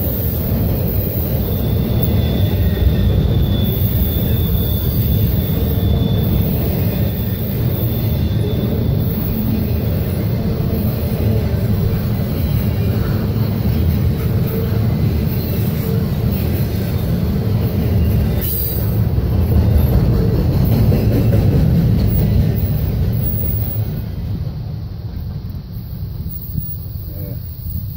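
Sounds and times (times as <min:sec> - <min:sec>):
freight train wheels rumbling on rail: 0:00.0 - 0:27.9.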